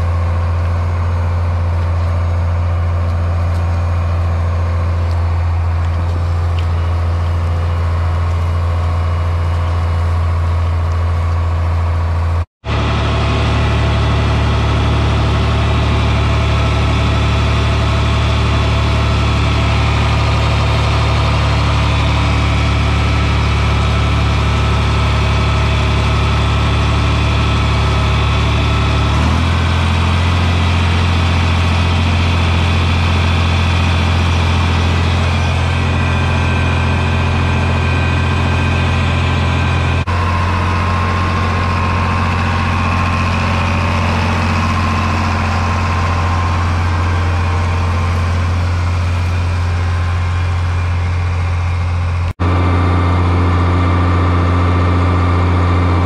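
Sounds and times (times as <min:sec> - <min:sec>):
tractor engines running: 0:00.0 - 0:56.0.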